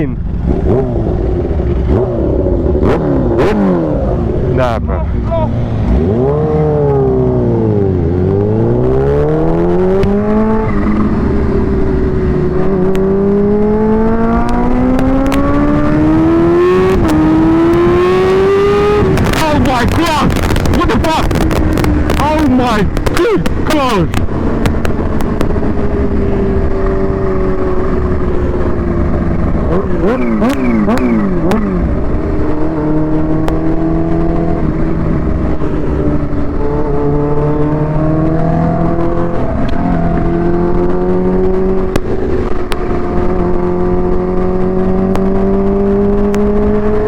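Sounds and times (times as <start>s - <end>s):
motorcycle engine accelerating: 0.0s - 47.0s
wind rumble on microphone: 0.0s - 47.0s.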